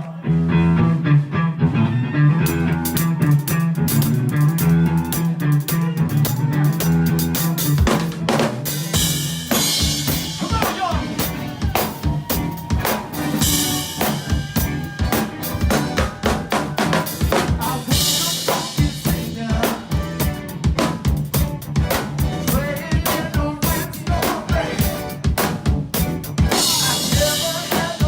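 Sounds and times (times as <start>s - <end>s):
bass notes: 0.0s - 28.0s
drum kit: 2.4s - 28.0s
live band playing: 2.4s - 28.0s.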